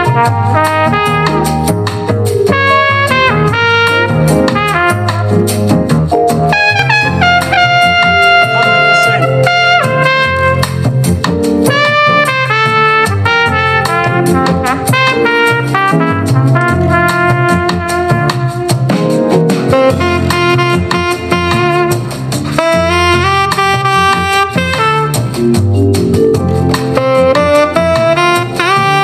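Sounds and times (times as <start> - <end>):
brass jazz from speaker: 0.0 - 29.0.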